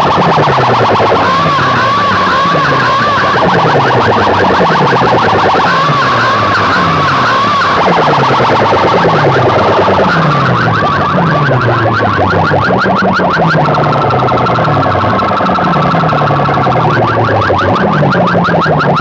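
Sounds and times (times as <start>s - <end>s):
electronic siren warble over loudspeakers: 0.0s - 19.0s.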